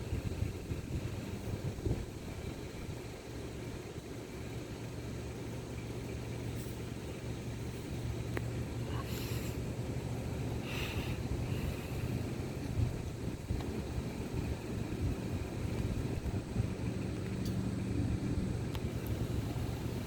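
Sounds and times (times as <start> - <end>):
jet engines low rumble: 0.0 - 20.0.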